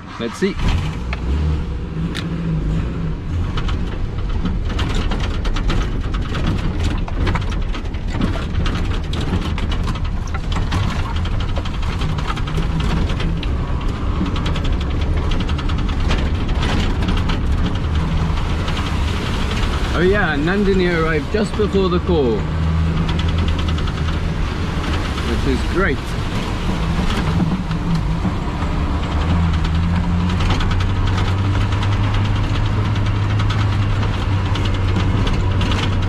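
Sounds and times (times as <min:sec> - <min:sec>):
vehicle body rattling: 0:00.0 - 0:36.0
vehicle engine running: 0:00.0 - 0:36.0.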